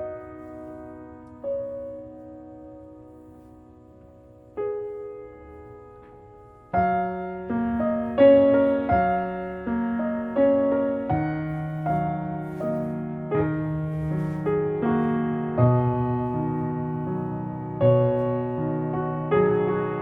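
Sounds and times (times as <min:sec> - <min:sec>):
soft piano music: 0:00.0 - 0:20.0.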